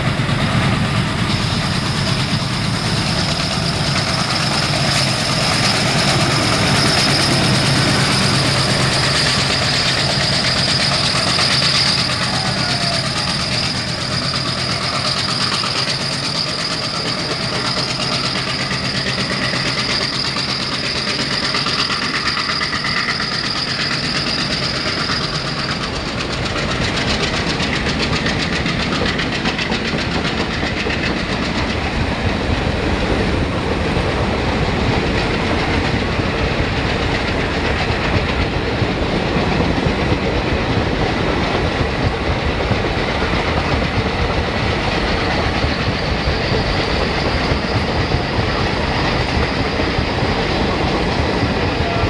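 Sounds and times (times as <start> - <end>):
diesel locomotives passing: 0.0 - 52.0
train wheels clattering over rail joints: 0.0 - 52.0.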